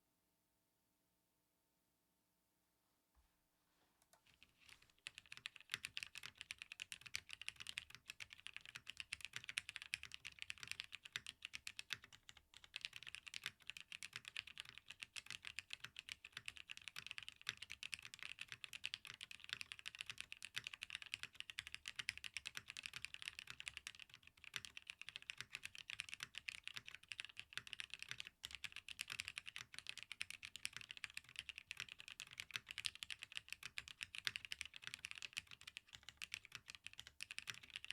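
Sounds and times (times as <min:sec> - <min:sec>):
fast mechanical keyboard typing: 0:04.4 - 0:37.9.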